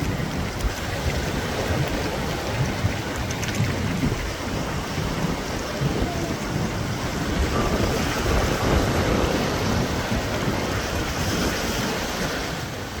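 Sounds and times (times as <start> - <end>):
waves breaking: 0.0 - 13.0
wind buffeting microphone: 0.0 - 13.0.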